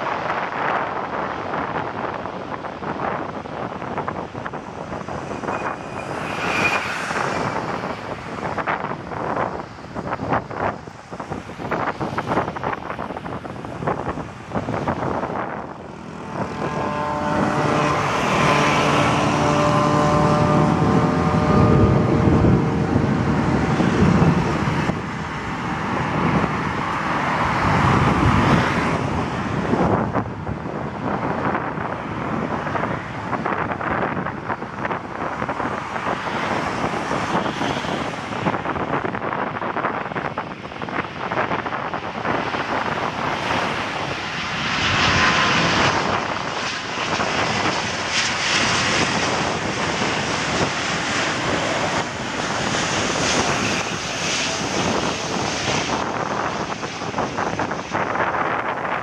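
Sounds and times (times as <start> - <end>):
jet airliner rumble: 0.0 - 59.0
wind gusting on microphone: 0.0 - 59.0
passing vehicle engine whine: 0.1 - 59.0.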